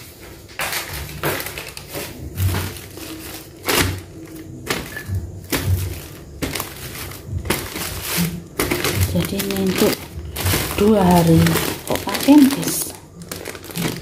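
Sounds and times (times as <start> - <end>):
plastic bags rustling: 0.0 - 14.0.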